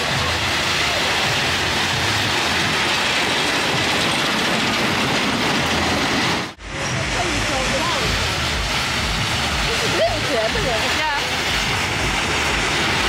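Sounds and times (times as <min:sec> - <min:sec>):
roller coaster wheels on rails: 0:00.0 - 0:13.0.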